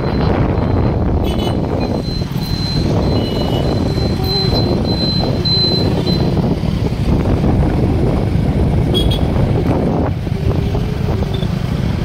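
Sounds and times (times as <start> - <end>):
motorbike engine and road noise: 0.0 - 12.0
wind rumble on microphone: 0.0 - 12.0.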